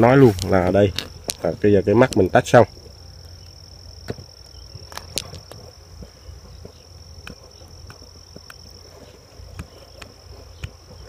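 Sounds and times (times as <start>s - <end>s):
insect trilling: 0.0s - 11.0s.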